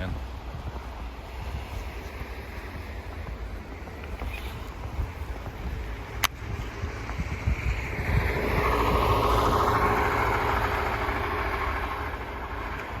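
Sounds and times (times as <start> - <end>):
wind rumble on microphone: 0.0 - 13.0
motor vehicle passing: 0.8 - 13.0.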